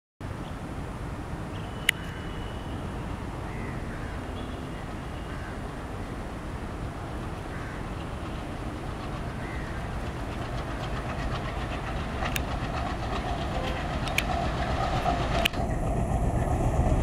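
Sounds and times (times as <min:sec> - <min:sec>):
distant locomotive rumble: 0:00.6 - 0:17.0.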